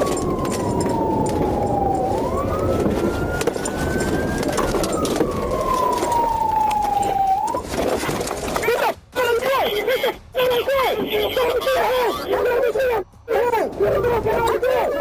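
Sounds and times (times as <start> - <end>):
police siren wailing: 0.0 - 8.6, 11.4 - 15.0.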